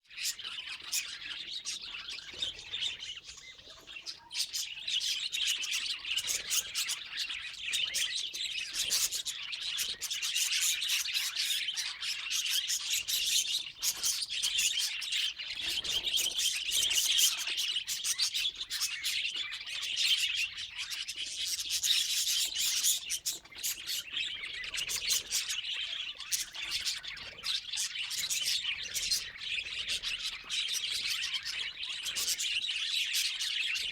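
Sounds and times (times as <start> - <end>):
budgerigars chattering and chirping: 0.1 - 33.9.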